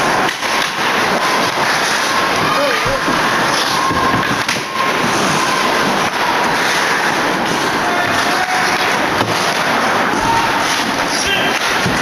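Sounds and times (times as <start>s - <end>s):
crowd noise echoing in rink: 0.0s - 12.0s
hockey sticks and puck clacking: 0.0s - 12.0s.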